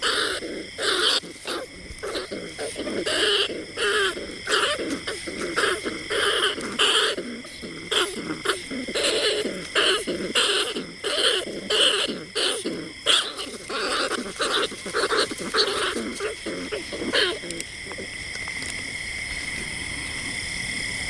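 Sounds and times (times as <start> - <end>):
short hoarse rat calls: 0.0 - 18.1.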